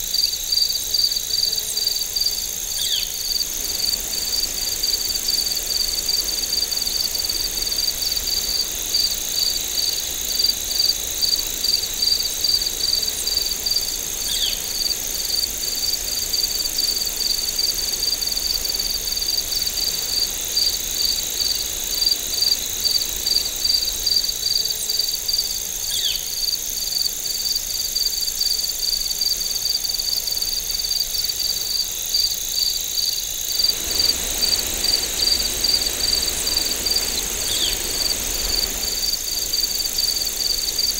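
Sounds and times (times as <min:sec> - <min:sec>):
crickets chirping: 0:00.0 - 0:40.9
high-pitched insect trill: 0:00.0 - 0:40.9.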